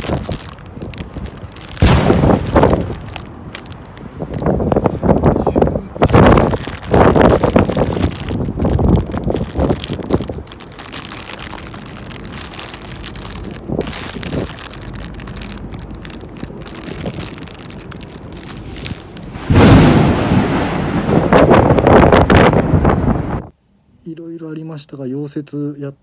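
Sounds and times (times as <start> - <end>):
wind buffeting microphone: 0.0 - 23.5.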